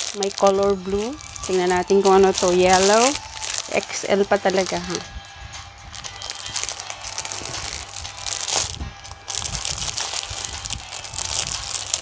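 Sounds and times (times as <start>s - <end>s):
plastic bag crinkling: 0.0s - 5.2s, 5.8s - 12.0s.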